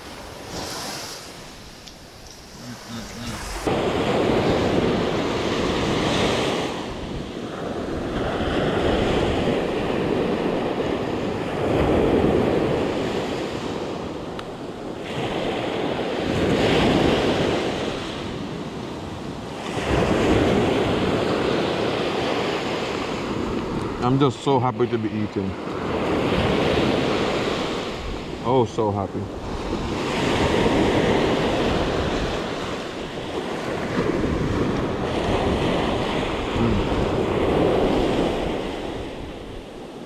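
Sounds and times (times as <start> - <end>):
wind on microphone: 0.0 - 24.1, 29.3 - 40.0
surf washing onto beach: 0.0 - 40.0.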